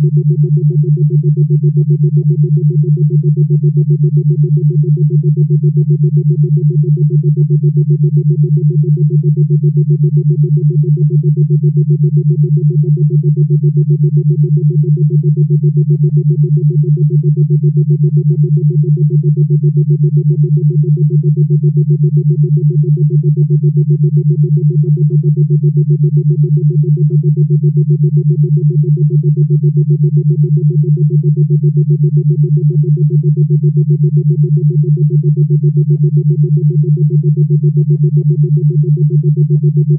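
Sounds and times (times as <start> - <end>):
pulsing synthesized low drone: 0.0 - 39.9.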